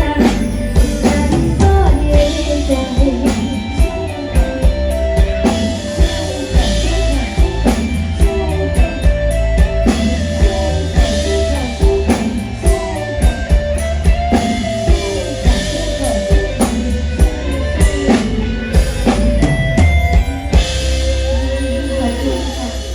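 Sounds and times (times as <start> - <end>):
drum kit beat: 0.0 - 22.9
heavy bass line: 0.0 - 22.9
sustained guitar: 0.0 - 22.9.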